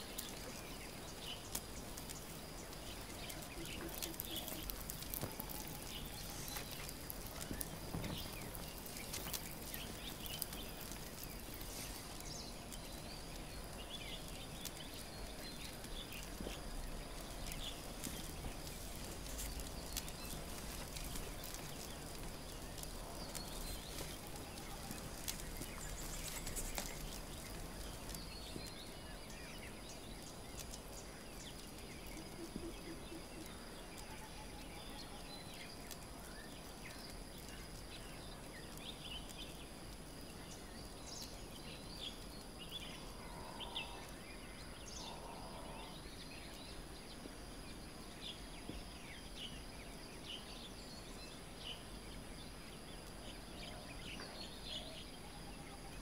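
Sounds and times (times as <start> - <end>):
faint chirps: 0.0 - 56.0
paper burning crackles: 0.0 - 56.0.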